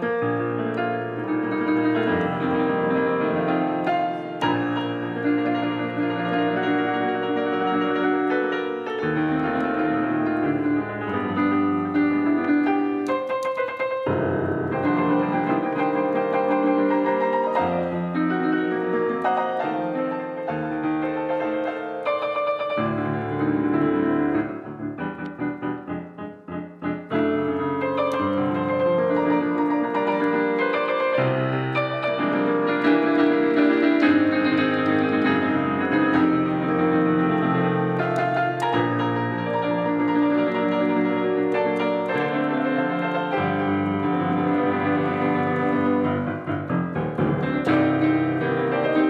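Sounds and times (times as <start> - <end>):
digital piano chords: 0.0 - 49.0.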